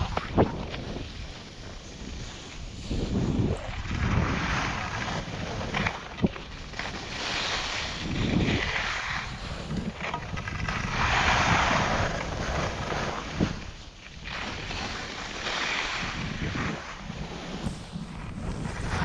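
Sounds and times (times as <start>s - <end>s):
skis scraping snow: 0.0s - 19.0s
wind buffeting microphone: 0.0s - 19.0s.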